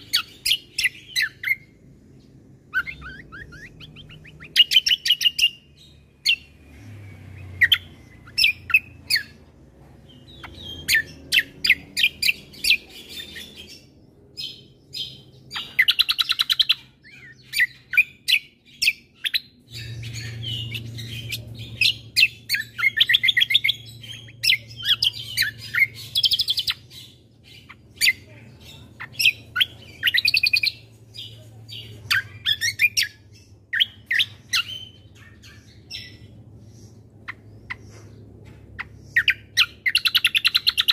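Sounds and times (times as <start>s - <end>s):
songbird singing chirps and trills: 0.0s - 40.9s.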